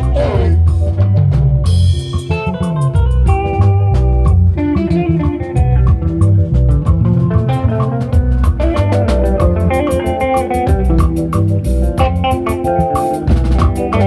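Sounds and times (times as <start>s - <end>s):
bass guitar: 0.0s - 14.0s
drum kit beat: 0.0s - 14.0s
plucked guitar: 0.0s - 14.0s.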